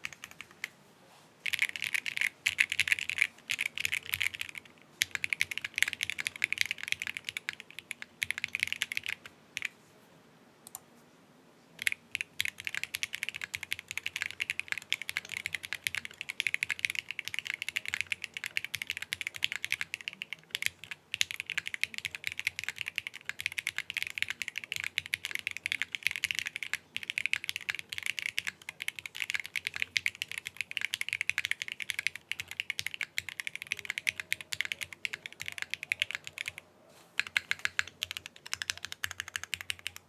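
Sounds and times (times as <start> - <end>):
mechanical keyboard typing: 0.0 - 0.7, 1.5 - 9.7, 11.8 - 36.6, 37.2 - 40.0.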